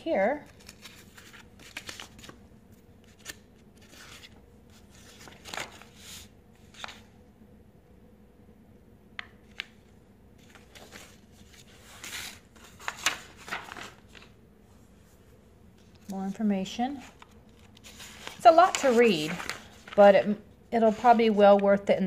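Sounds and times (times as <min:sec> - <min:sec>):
paper pages rustling: 0:00.3 - 0:07.1, 0:09.4 - 0:14.4, 0:15.0 - 0:21.9.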